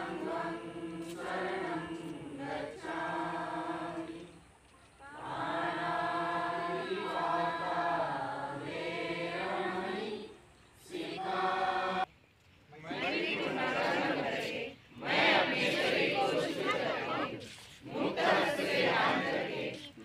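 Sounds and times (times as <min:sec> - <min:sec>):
group chanting in unison: 0:00.0 - 0:04.4, 0:05.0 - 0:12.1, 0:12.8 - 0:20.0.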